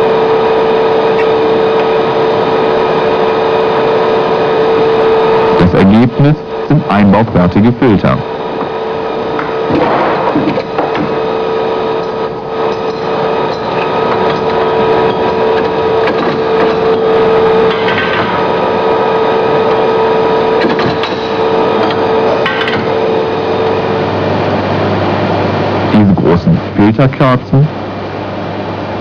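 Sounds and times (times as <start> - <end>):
workshop machinery humming: 0.0 - 29.0.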